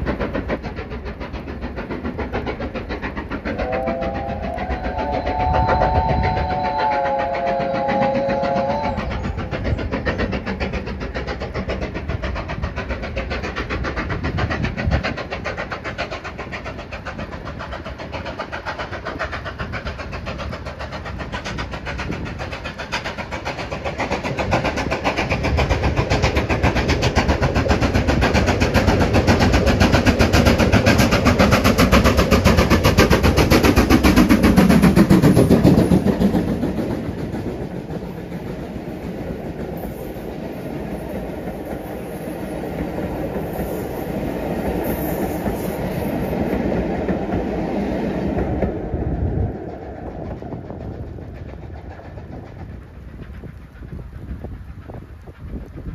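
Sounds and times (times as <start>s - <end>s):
steam locomotive passing: 0.0s - 55.9s
train wheels clicking over rail joints: 0.0s - 55.9s.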